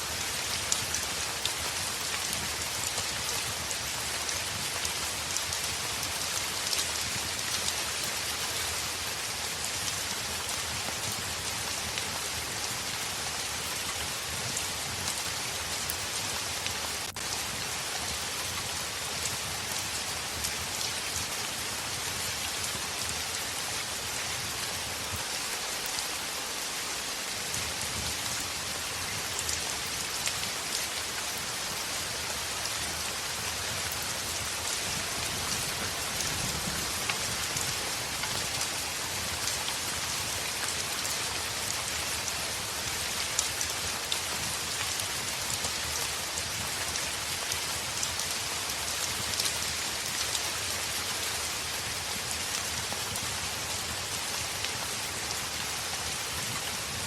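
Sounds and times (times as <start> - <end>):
heavy rain on a window pane: 0.0 - 57.0.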